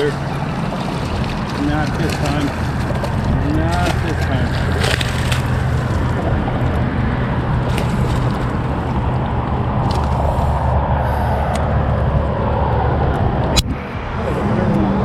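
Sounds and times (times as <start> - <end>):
vehicle traffic rumble: 0.0 - 15.0.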